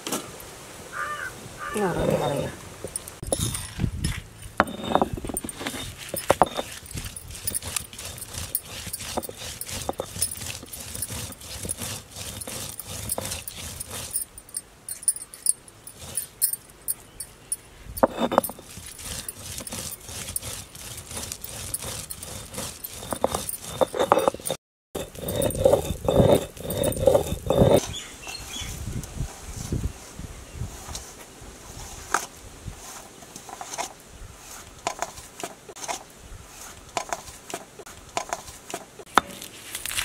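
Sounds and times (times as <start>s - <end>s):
stone roller grinding spices: 1.8s - 28.1s, 31.7s - 40.0s.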